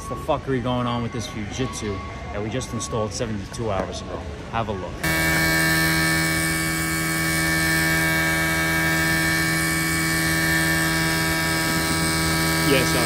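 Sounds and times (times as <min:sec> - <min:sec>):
outdoor unit humming: 0:00.0 - 0:13.0.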